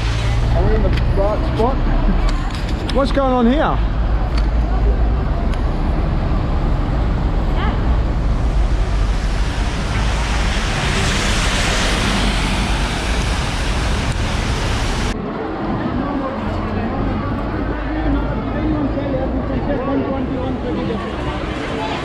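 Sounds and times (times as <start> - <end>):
city traffic noise: 0.0 - 22.0.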